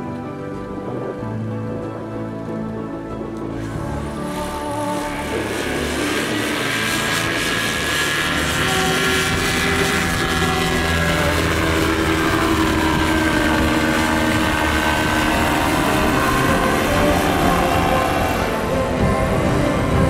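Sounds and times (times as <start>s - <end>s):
paramotor engine and propeller: 0.0s - 20.0s.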